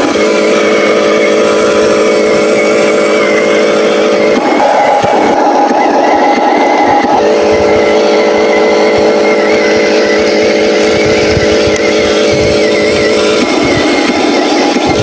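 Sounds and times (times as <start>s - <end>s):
toy truck motor whine: 0.0s - 15.0s
wavering high tone: 0.0s - 15.0s.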